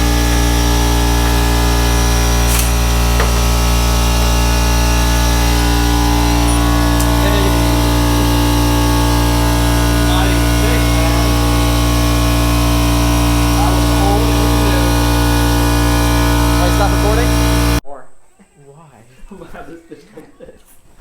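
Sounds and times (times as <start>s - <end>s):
motor humming: 0.0s - 17.8s.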